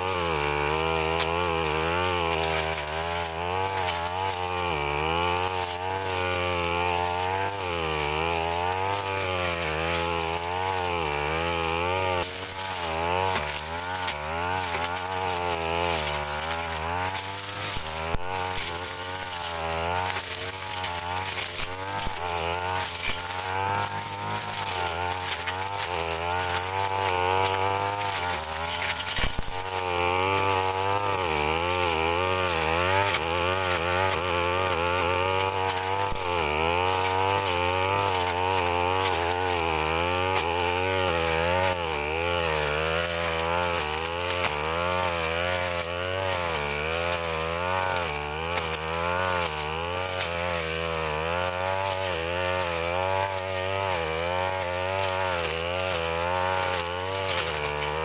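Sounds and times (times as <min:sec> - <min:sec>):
brush cutter engine running hard: 0:00.0 - 0:58.0.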